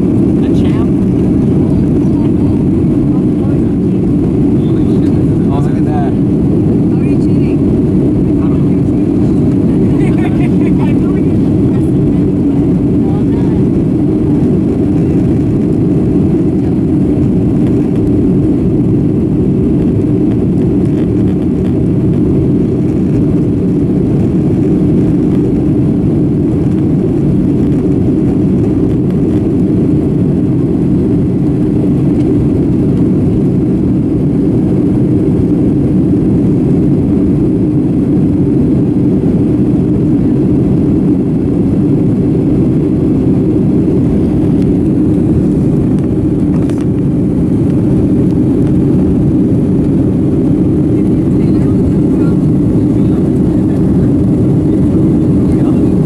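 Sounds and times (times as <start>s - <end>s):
jet engines droning: 0.0s - 56.0s
rushing air: 0.0s - 56.0s.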